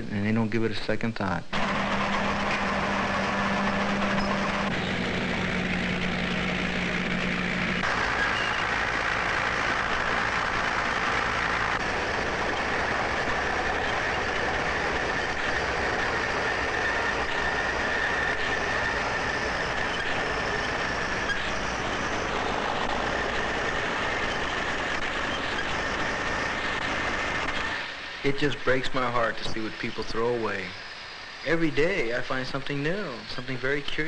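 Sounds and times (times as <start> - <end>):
high mechanical whine: 0.0 - 34.0
garbage truck tipping load: 1.5 - 30.4
bulldozer pushing garbage: 1.5 - 30.7.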